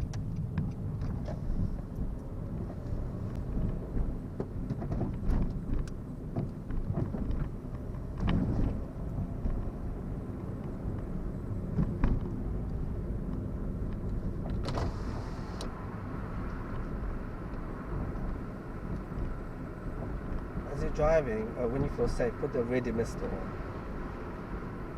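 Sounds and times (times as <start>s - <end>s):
car engine and road rumble: 0.0s - 24.9s.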